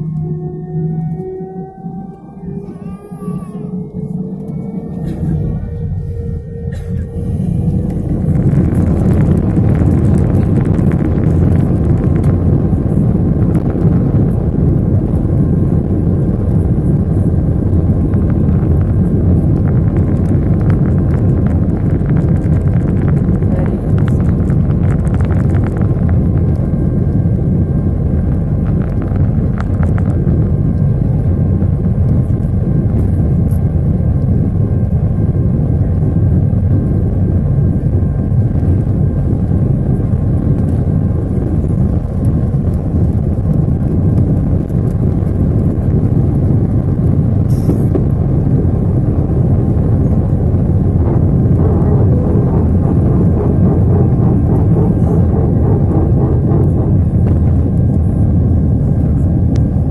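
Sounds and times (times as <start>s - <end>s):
jet engines deep rumble: 0.0s - 59.9s.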